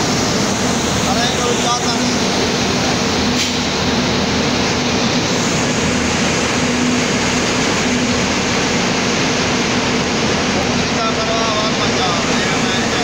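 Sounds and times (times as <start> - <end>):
spinning-mill machinery din: 0.0 - 13.0.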